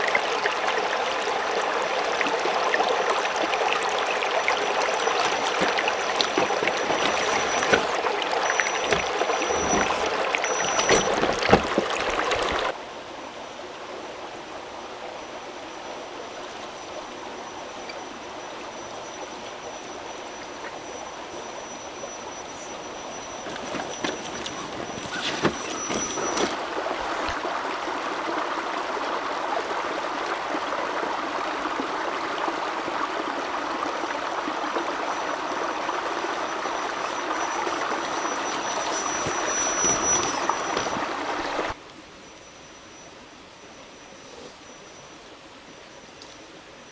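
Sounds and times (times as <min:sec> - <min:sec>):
stream splashing over rocks: 0:00.0 - 0:12.8, 0:13.9 - 0:41.8.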